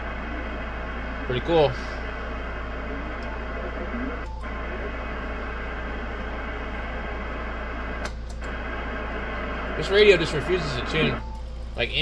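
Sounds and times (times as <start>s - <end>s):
radio static hiss: 0.0s - 11.3s
low hum: 0.0s - 12.0s.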